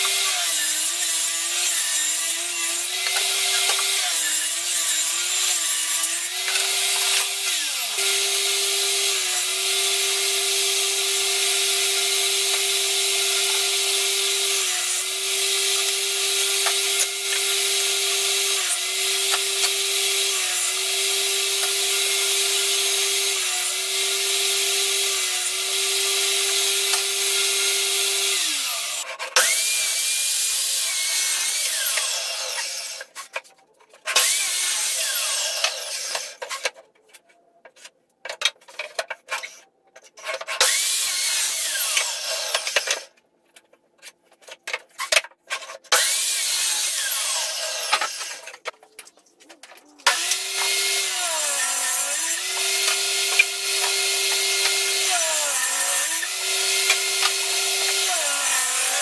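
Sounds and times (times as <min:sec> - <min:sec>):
table saw cutting wood: 0:00.0 - 0:33.3, 0:34.1 - 0:36.7, 0:40.4 - 0:43.1, 0:45.6 - 0:48.7, 0:50.0 - 0:59.0.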